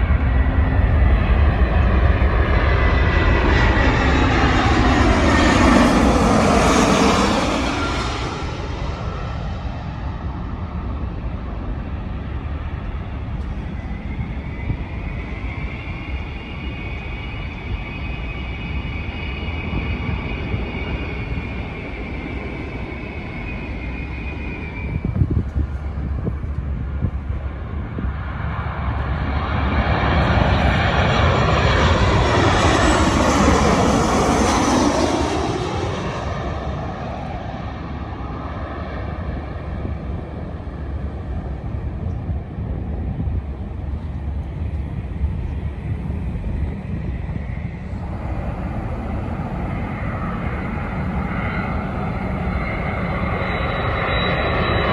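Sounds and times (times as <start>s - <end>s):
high engine whine: 0.0s - 54.9s
jet airliner passing overhead: 0.0s - 54.9s.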